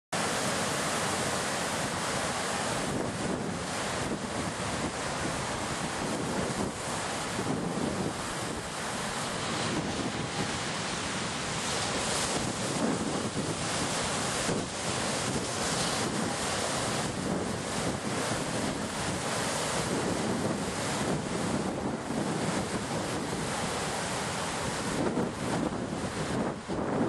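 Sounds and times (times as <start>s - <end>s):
wind and sea rushing: 0.2s - 27.0s
wind buffeting microphone: 1.8s - 27.0s.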